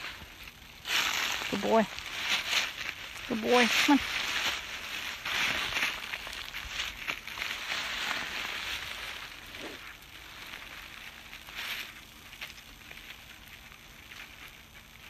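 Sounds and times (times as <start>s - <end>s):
footsteps in dry leaves: 0.0s - 15.0s.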